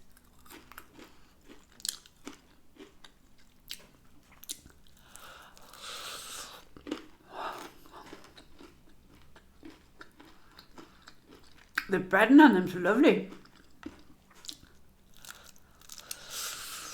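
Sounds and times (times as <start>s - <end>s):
crunchy chewing: 0.1s - 11.8s, 13.3s - 16.9s.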